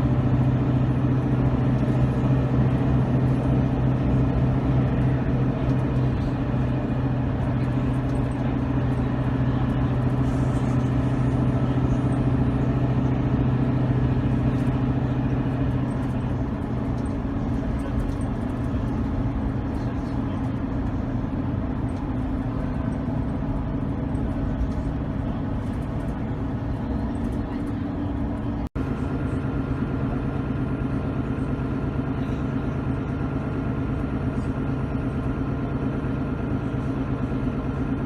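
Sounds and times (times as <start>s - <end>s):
bus diesel engine droning: 0.0s - 38.0s.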